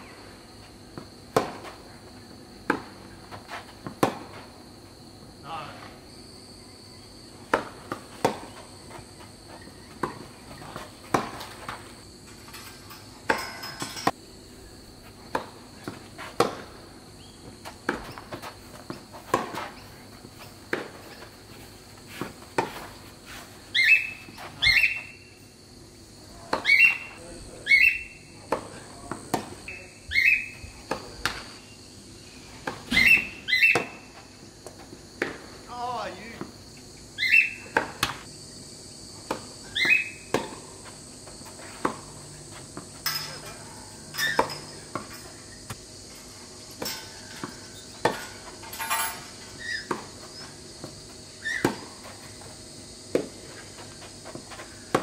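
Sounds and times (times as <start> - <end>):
high insect drone: 0.0 - 55.0
tennis balls hit with racquets: 0.6 - 4.7, 7.2 - 14.2, 14.9 - 25.2, 26.4 - 31.9, 32.6 - 36.6, 37.3 - 38.4, 39.1 - 55.0.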